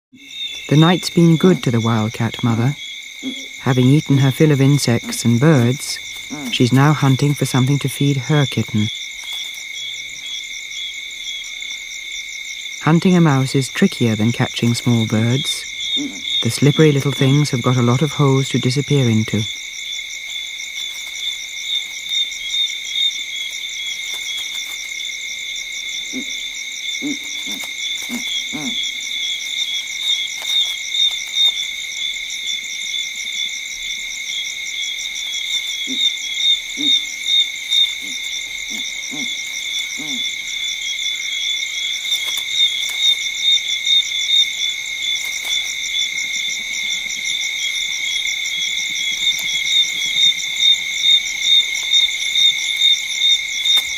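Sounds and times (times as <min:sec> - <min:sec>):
insects trilling: 0:00.1 - 0:53.9.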